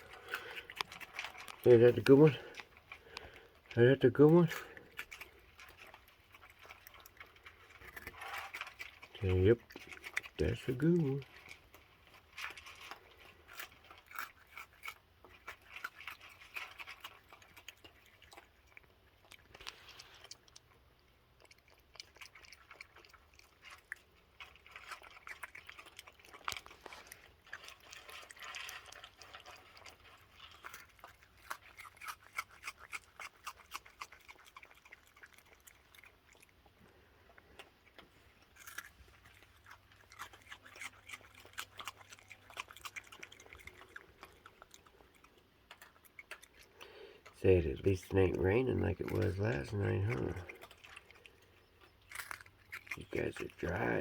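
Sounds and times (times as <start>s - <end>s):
raccoons chewing and crunching: 0.0s - 54.0s.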